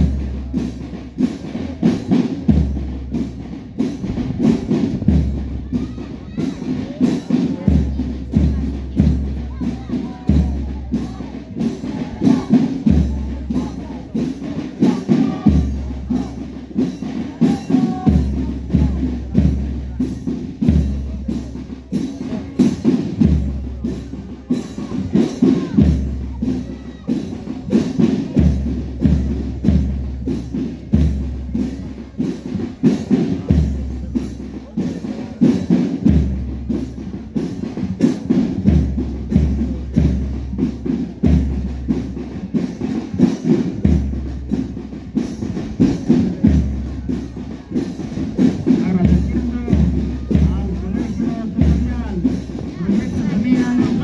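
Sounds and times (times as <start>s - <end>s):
marching drums: 0.0s - 54.0s.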